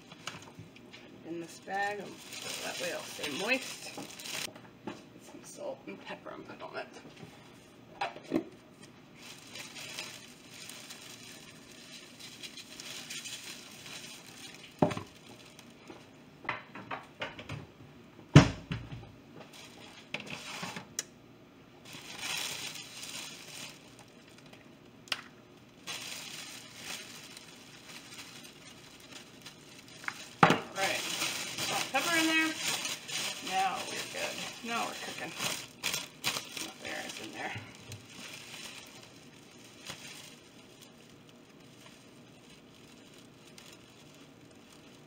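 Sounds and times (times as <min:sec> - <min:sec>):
plastic bag crinkling: 0:00.0 - 0:04.6, 0:08.7 - 0:16.0, 0:19.5 - 0:20.9, 0:21.8 - 0:45.0.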